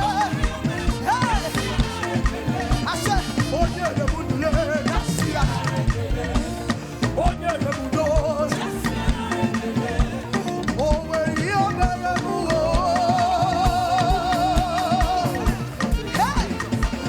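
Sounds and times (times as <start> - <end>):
steady drum beat: 0.0 - 17.0
upbeat live band music: 0.0 - 17.0.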